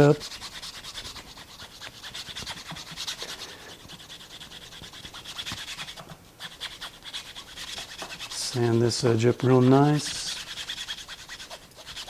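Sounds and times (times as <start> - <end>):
sandpaper scratching metal: 0.0 - 12.0.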